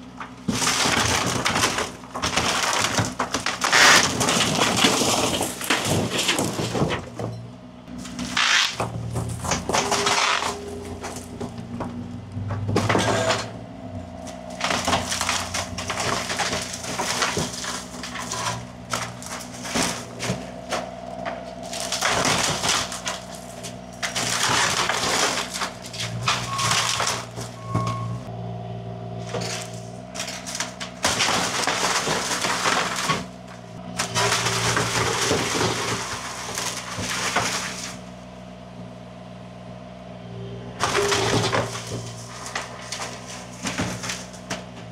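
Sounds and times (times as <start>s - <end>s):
wood cracking and splintering: 0.0s - 28.3s, 29.1s - 38.2s, 40.8s - 44.9s
machine engine running: 0.0s - 44.9s.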